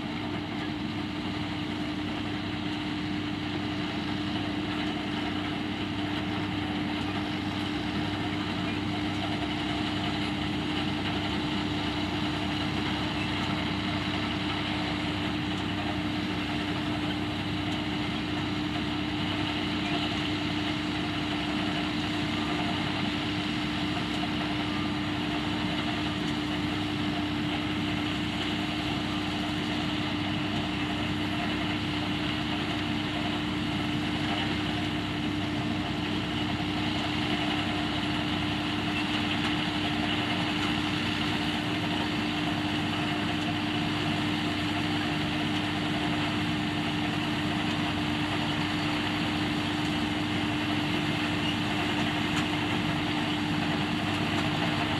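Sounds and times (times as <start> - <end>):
harvesting machinery running: 0.0 - 54.9.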